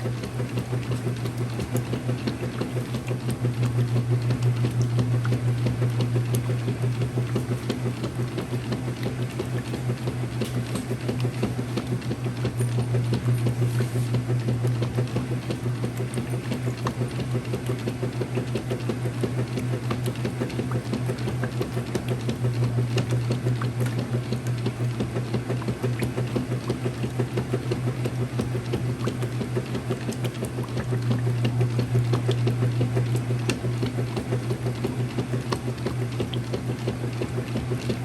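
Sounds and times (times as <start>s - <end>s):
washing machine motor hum: 0.0s - 38.0s.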